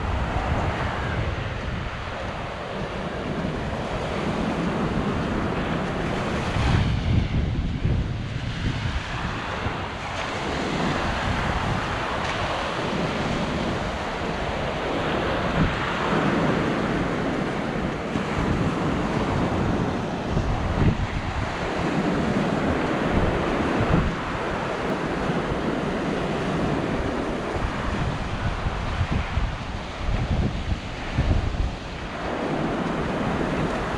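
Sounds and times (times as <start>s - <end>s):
sea waves breaking on beach: 0.0s - 33.9s
wind buffeting microphone: 0.0s - 33.9s.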